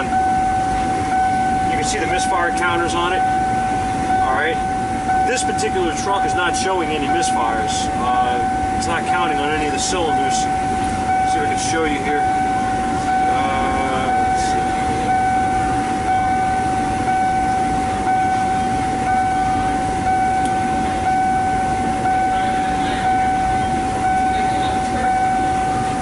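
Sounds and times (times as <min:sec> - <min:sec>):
high-pitched electronic tone: 0:00.0 - 0:26.0
low rumble: 0:00.0 - 0:26.0.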